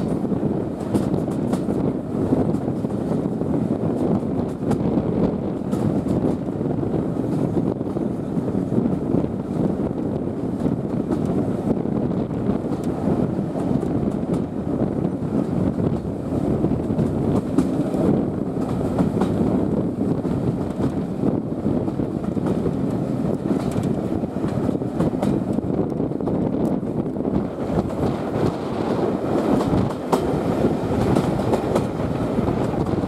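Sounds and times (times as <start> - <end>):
wheels rumbling on rail: 0.0 - 33.0
wind buffeting microphone: 0.0 - 33.0.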